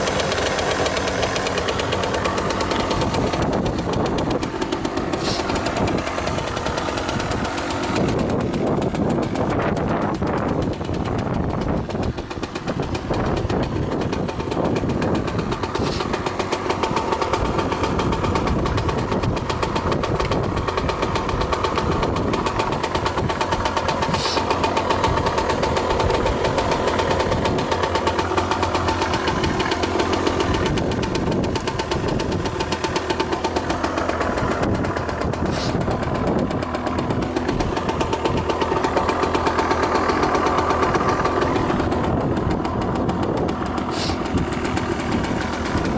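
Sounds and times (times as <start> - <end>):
two-stroke engine idling: 0.0 - 45.9.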